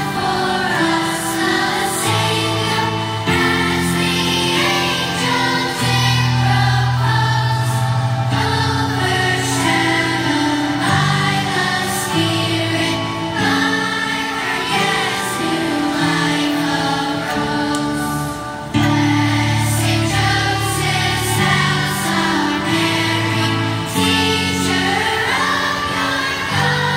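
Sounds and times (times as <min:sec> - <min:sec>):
children's choir singing a hymn: 0:00.0 - 0:26.9.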